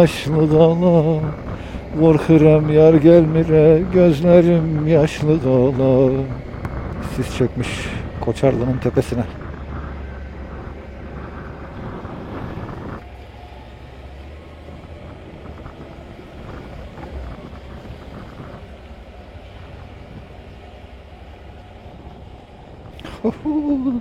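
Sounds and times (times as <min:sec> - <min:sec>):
motorcycle engine: 0:00.0 - 0:24.0
wind rush over microphone: 0:00.0 - 0:24.0.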